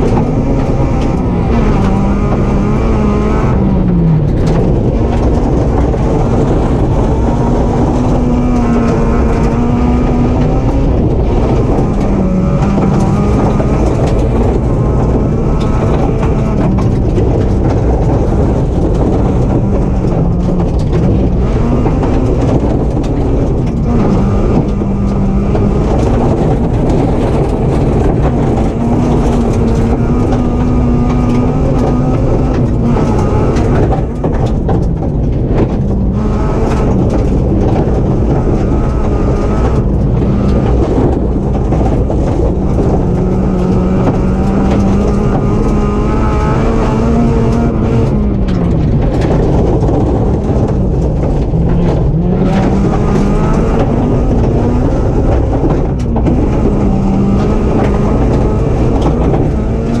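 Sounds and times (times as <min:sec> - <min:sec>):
rally car engine revving: 0:00.0 - 1:00.0
tyres rumbling on loose stones: 0:00.0 - 1:00.0.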